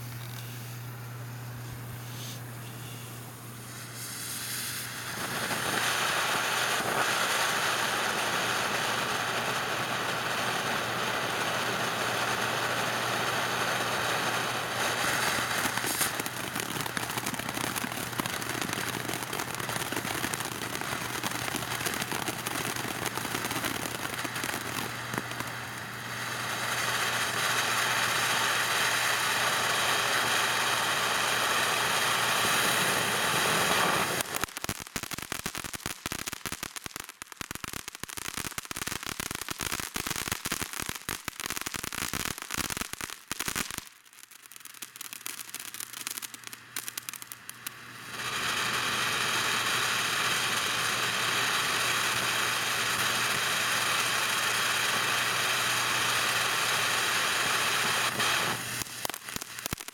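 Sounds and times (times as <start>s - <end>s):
firework crackles: 0.0s - 59.9s
firework fountain hissing: 0.0s - 59.9s.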